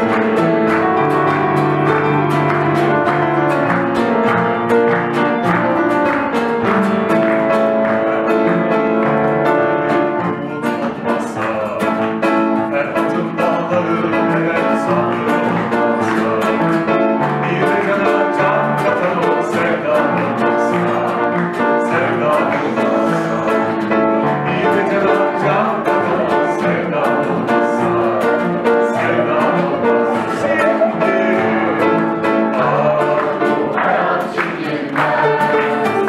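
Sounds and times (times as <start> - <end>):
acoustic guitar playing: 0.0 - 36.0
upright piano playing: 0.0 - 36.0.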